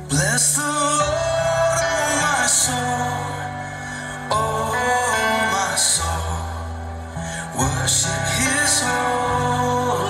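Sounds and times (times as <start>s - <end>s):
background music melody: 0.0s - 10.0s
held bass notes: 0.0s - 10.0s.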